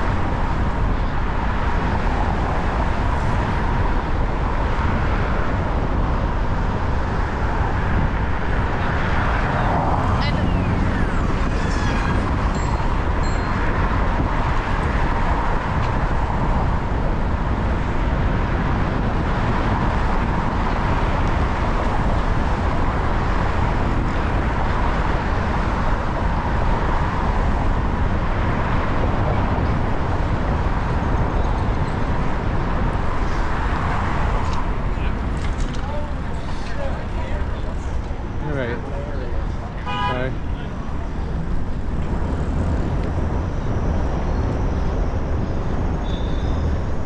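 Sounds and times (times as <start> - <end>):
city traffic noise: 0.0 - 47.0
wind rushing: 0.0 - 47.0.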